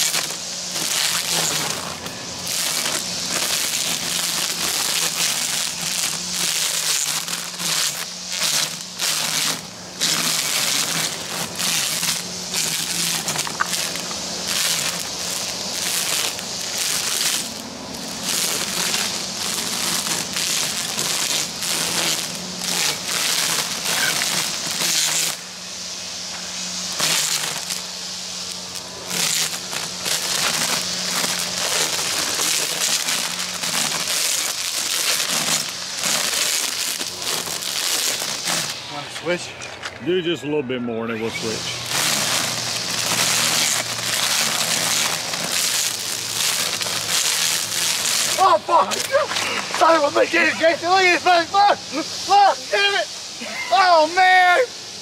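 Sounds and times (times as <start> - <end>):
trimmer line cutting grass: 0.0 - 55.0.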